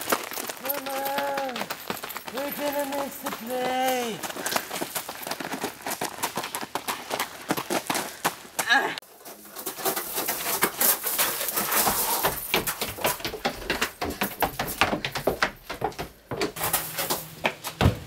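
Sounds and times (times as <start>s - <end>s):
footsteps running on wooden stairs: 0.0s - 8.7s, 9.5s - 18.0s.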